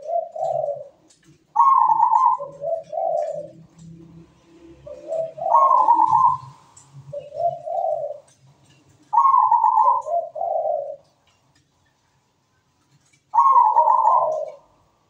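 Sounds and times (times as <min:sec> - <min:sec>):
dove cooing: 0:00.0 - 0:11.2, 0:13.3 - 0:14.8.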